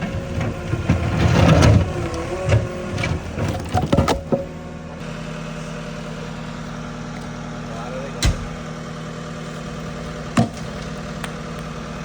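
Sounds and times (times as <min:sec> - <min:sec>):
engine running with whine: 0:00.0 - 0:12.0.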